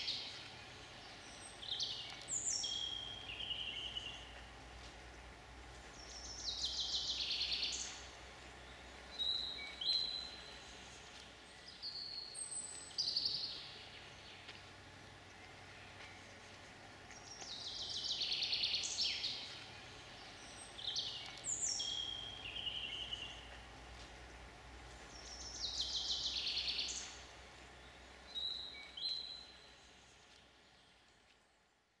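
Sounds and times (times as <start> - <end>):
faint background noise: 0.0 - 32.0
songbird singing: 0.0 - 32.0.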